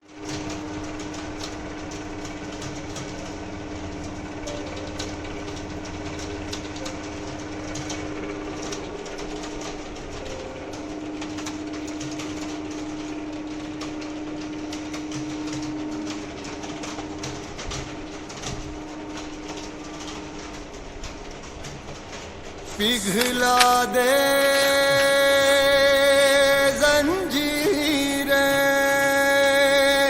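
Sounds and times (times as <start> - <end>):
electrical hum: 0.0 - 30.0
keyboard typing clatter: 0.0 - 30.0.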